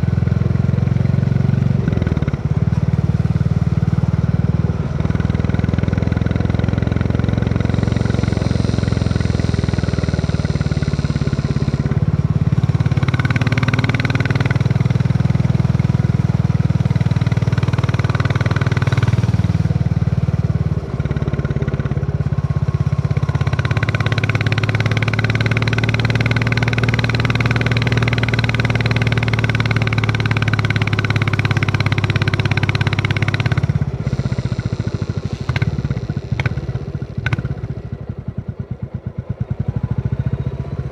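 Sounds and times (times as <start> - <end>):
motorcycle engine thumping: 1.4 - 38.4.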